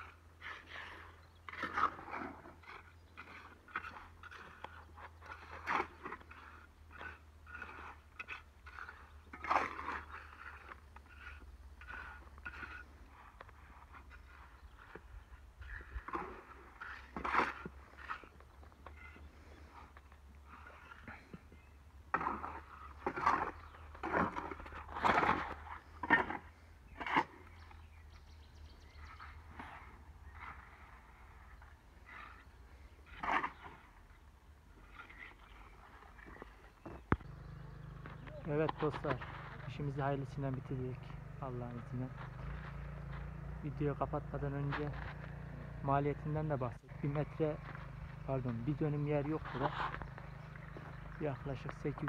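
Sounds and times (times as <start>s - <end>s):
shovel scraping wet concrete: 0.0s - 27.5s, 29.1s - 34.2s, 34.8s - 37.4s, 38.5s - 40.9s, 45.9s - 52.0s
gritty crunches of concrete: 0.0s - 52.0s.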